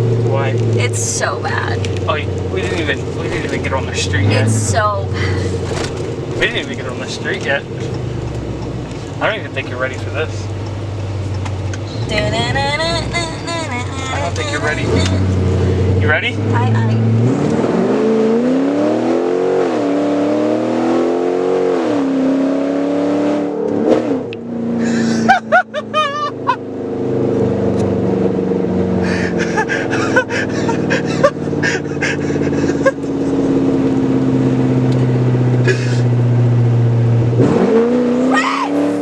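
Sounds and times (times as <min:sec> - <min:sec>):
loud truck engine accelerating: 0:00.0 - 0:39.0.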